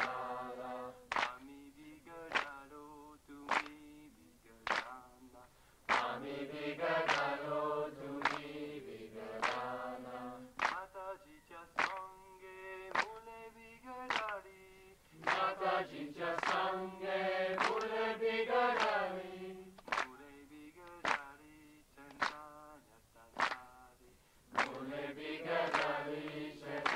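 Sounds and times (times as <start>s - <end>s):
group singing devotional song: 0.0s - 26.9s.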